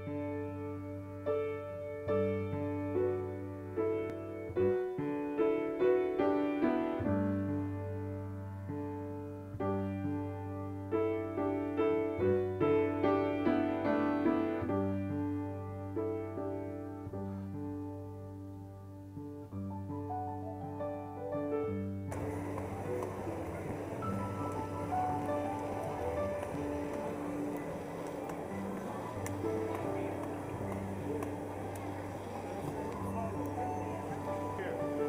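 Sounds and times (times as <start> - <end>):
piano melody: 0.0 - 35.0.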